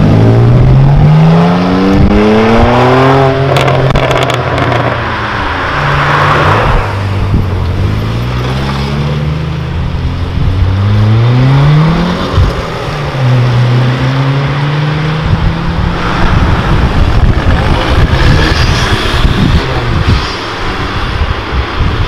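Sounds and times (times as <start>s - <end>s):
car engine accelerating: 0.0s - 21.5s.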